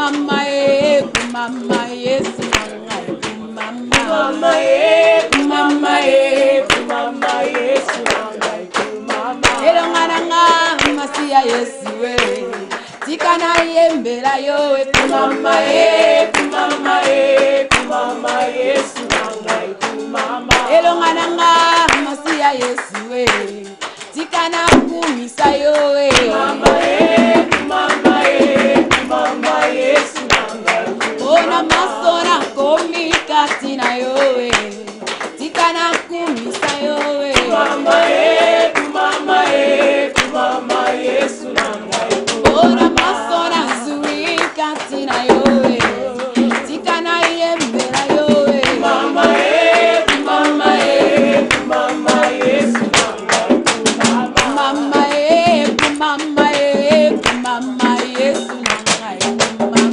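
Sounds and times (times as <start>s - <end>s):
hand claps: 0.0s - 59.9s
women singing gospel song: 0.0s - 59.9s.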